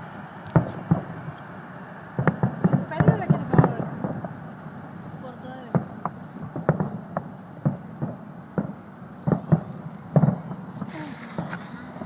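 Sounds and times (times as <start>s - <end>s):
background rumble: 0.0s - 12.0s
fireworks popping: 0.5s - 12.0s.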